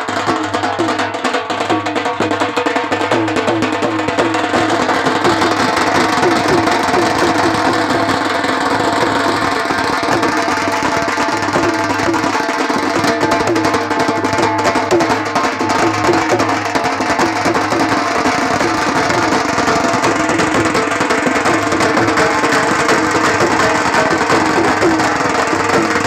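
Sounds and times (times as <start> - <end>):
drums beaten with sticks: 0.0 - 26.0.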